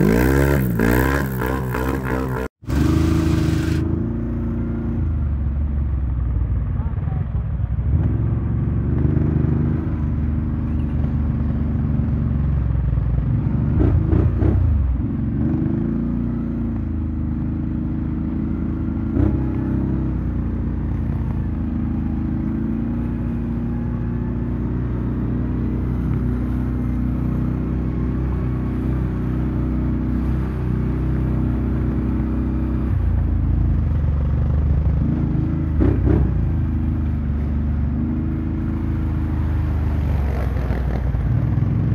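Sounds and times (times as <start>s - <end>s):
off-road vehicle engine running: 0.0s - 41.9s.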